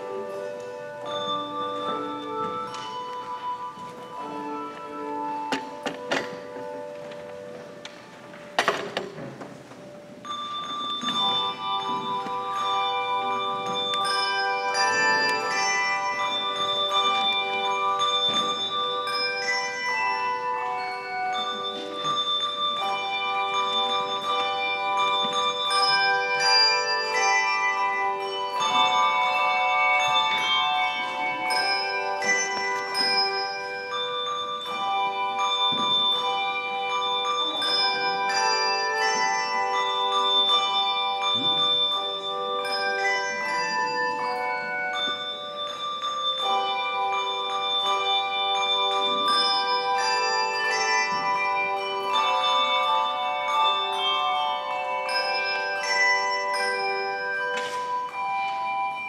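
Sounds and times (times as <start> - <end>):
handbell choir playing chords: 0.0 - 59.0.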